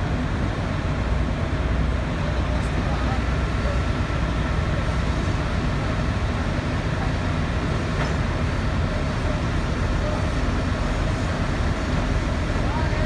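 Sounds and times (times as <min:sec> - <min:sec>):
diesel lorry engines running: 0:00.0 - 0:13.0.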